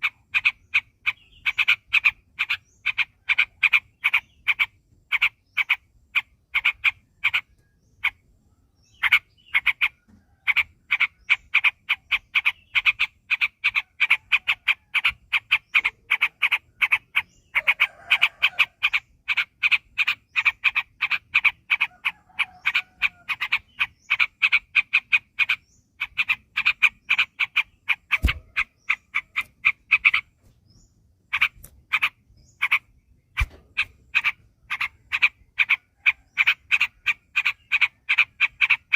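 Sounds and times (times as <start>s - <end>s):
bulbul calling: 0.0s - 38.9s.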